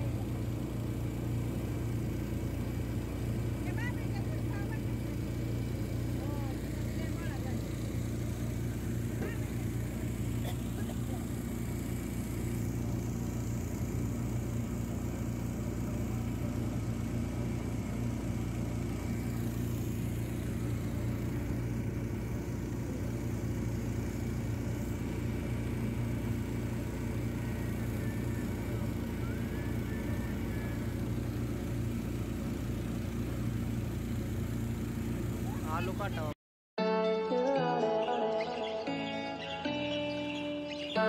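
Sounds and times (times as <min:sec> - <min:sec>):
motorboat engine running: 0:00.0 - 0:36.4, 0:37.6 - 0:41.0.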